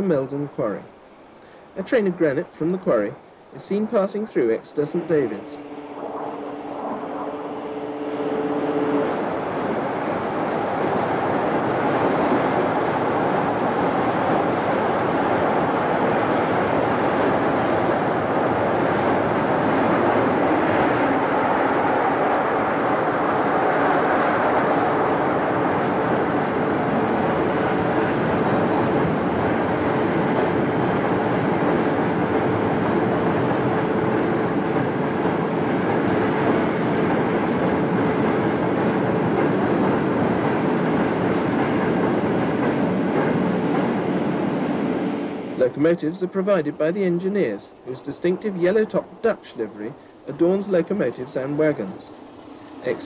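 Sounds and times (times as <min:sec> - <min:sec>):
diesel locomotive engine: 0:00.0 - 0:53.0.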